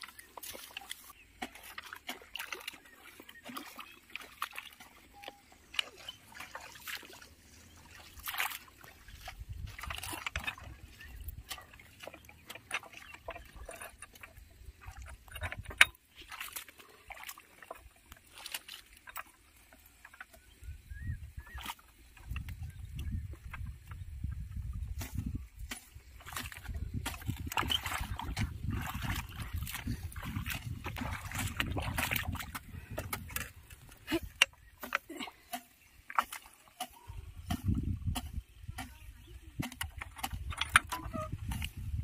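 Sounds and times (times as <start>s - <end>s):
wet mud squelching and sloshing: 0.0s - 42.0s.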